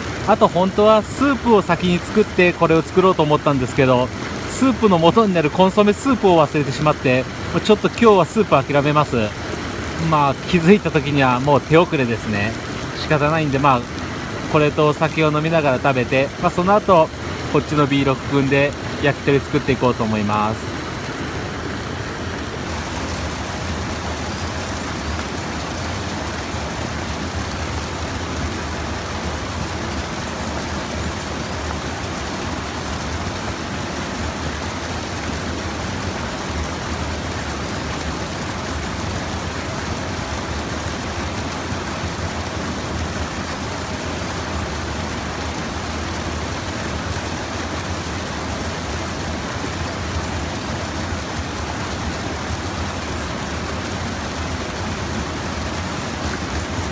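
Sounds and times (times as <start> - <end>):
stream water flowing: 0.0 - 56.9.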